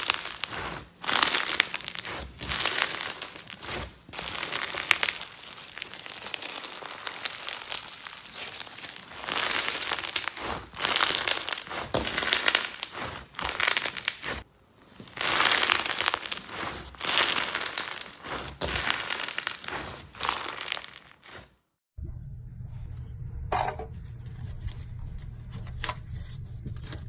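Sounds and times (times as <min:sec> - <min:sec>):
slime crackling and crinkling: 0:00.0 - 0:21.8.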